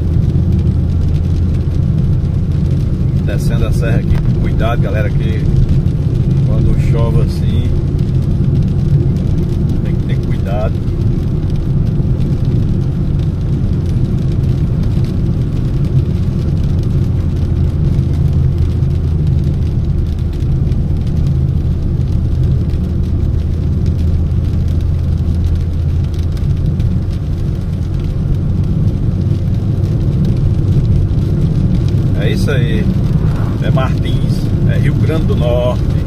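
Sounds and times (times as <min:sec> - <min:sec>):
car engine and tyres drone: 0:00.0 - 0:36.0.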